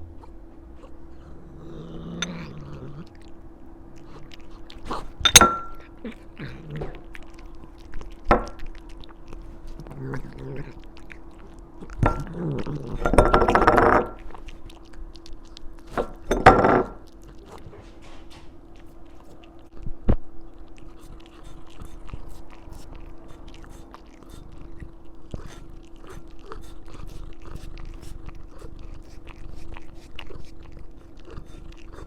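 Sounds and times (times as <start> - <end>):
faint steady hum: 0.0 - 32.0
cat chewing strawberry: 0.2 - 32.0.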